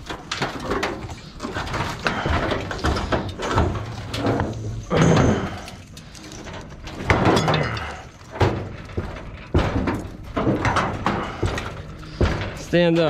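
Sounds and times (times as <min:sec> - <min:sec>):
sheet metal clanking and knocking: 0:00.0 - 0:13.0.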